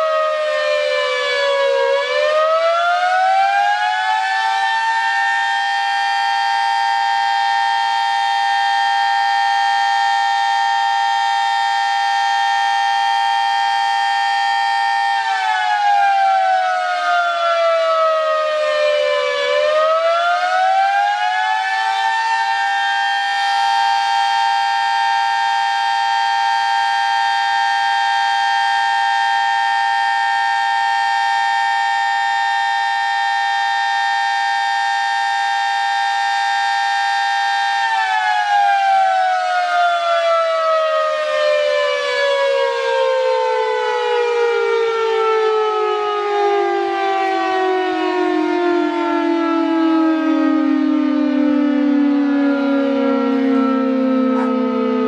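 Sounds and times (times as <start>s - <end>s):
air raid siren: 0.0s - 55.0s.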